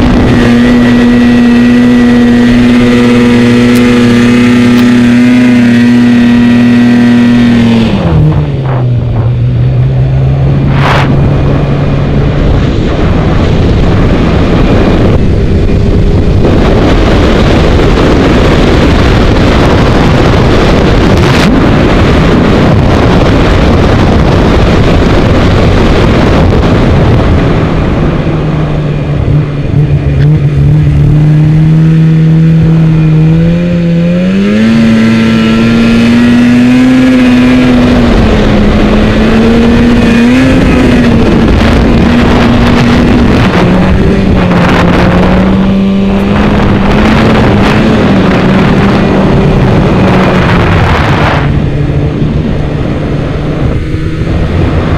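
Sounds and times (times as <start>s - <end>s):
snowmobile engine running hard: 0.0s - 54.9s
wind noise on microphone: 0.0s - 54.9s.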